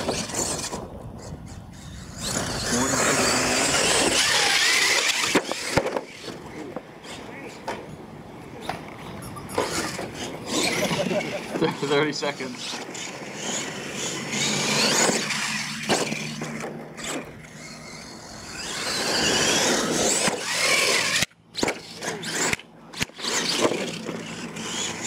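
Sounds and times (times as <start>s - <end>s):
toy truck motor whining: 0.0s - 7.6s, 9.2s - 25.0s
tyres scrabbling on loose dirt: 0.0s - 7.7s, 8.6s - 25.0s.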